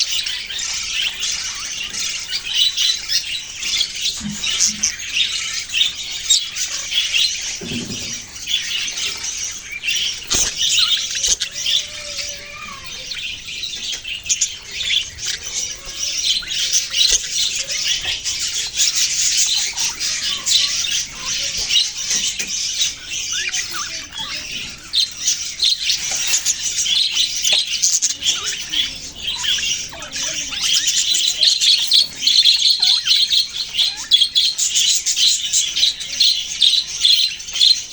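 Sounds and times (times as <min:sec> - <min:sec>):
budgerigars chirping and chattering: 0:00.0 - 0:37.9.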